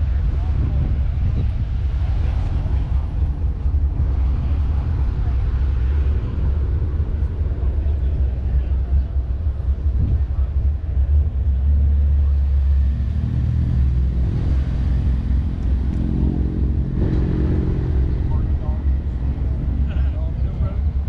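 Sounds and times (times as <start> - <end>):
car engine idling: 0.0 - 21.0
wind on microphone: 0.0 - 21.0.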